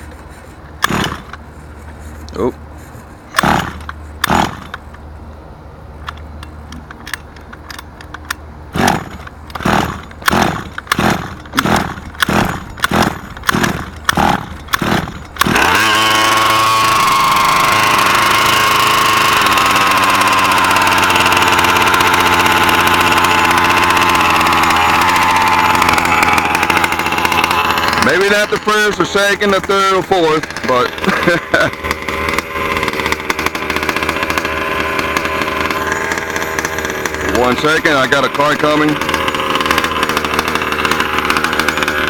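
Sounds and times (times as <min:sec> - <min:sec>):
small two-stroke engine idling: 0:00.0 - 0:02.5, 0:03.3 - 0:05.0, 0:08.7 - 0:42.0
recoil starter pulls: 0:00.0 - 0:05.1, 0:06.0 - 0:42.0.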